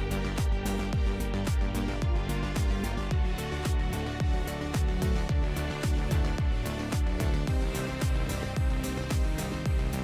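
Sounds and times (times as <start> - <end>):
deep kick drums: 0.0 - 10.0.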